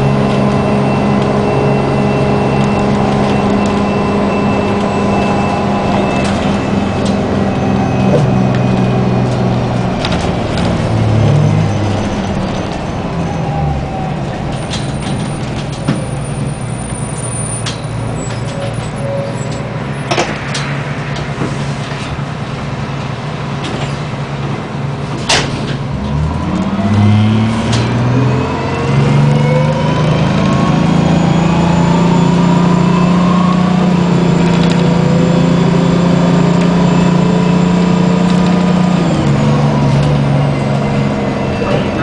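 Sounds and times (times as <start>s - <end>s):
diesel bus engine: 0.0s - 42.0s.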